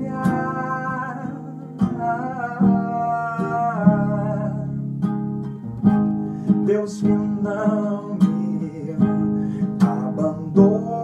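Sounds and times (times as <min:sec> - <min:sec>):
man singing: 0:00.0 - 0:04.8, 0:06.4 - 0:11.0
acoustic guitar strumming: 0:00.0 - 0:11.0.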